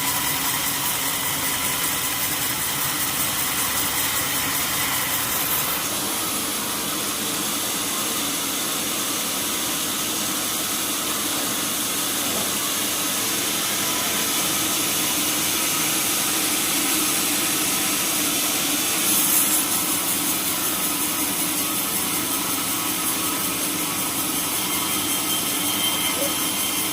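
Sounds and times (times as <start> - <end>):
sawmill machinery running: 0.0 - 26.9.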